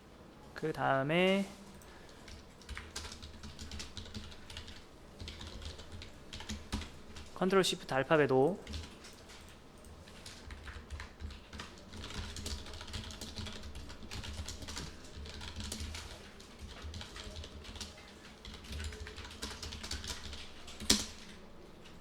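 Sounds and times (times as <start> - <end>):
typing on computer keyboard: 1.7 - 8.0, 8.6 - 22.0.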